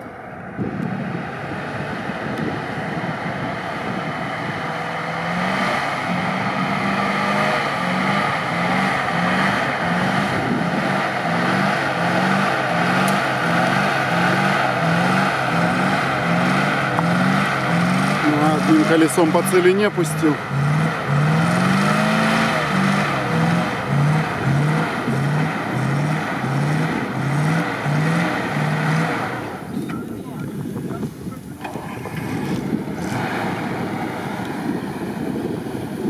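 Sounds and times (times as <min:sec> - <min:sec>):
truck engine pulling under load: 0:00.0 - 0:36.0.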